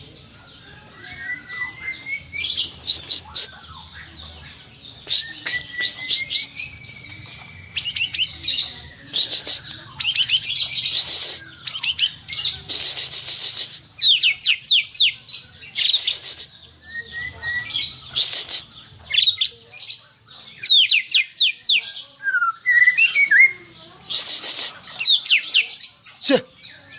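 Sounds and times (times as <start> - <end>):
songbird singing chirps and rattles: 0.0 - 26.9.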